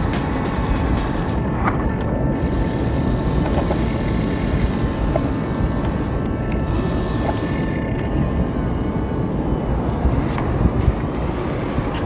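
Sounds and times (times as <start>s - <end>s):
steady low rumble: 0.0s - 12.0s
toy motors and gears whirring: 0.0s - 12.0s.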